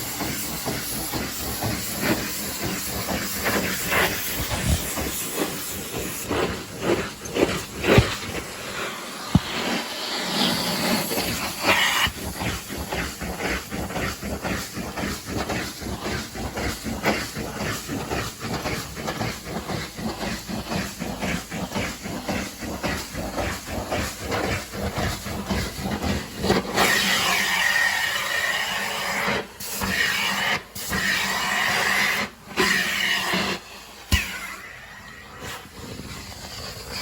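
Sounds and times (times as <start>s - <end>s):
steam cleaner spray and suction hiss: 0.0s - 37.0s.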